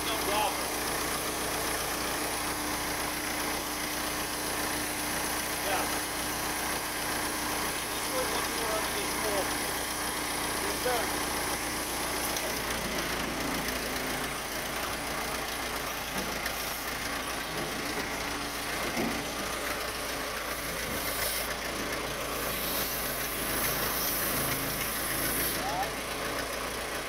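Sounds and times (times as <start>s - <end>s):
backhoe loader engine running: 0.0s - 27.0s.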